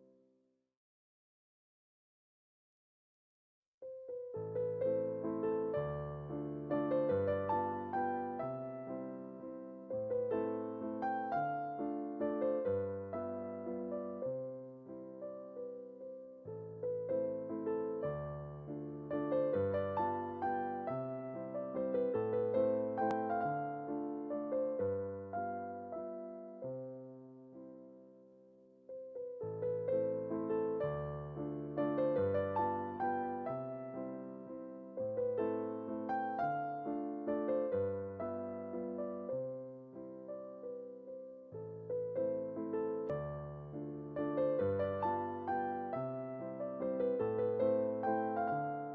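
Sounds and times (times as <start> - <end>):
gentle piano music: 0.0 - 0.2, 3.8 - 48.9.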